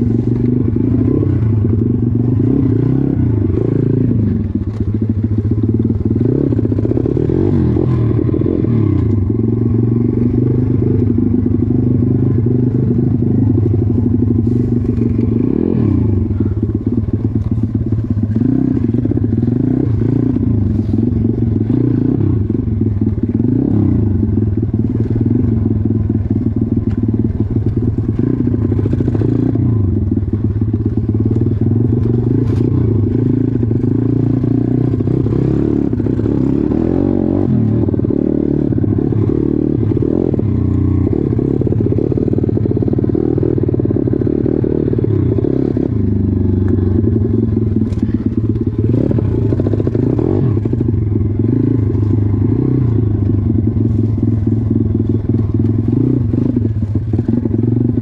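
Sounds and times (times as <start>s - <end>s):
small motorbike engine revving: 0.0s - 58.0s.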